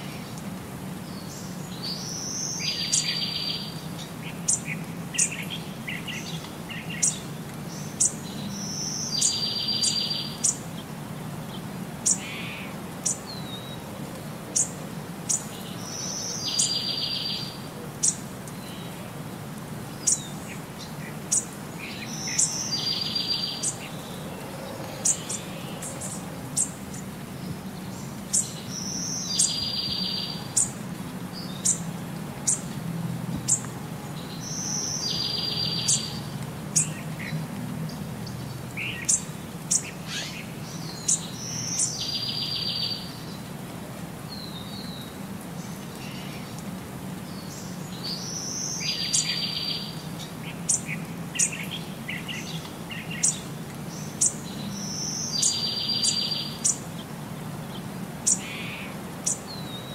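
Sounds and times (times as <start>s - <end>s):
birds chirping: 1.0s - 13.9s, 14.5s - 19.0s, 19.8s - 43.5s, 44.3s - 59.9s.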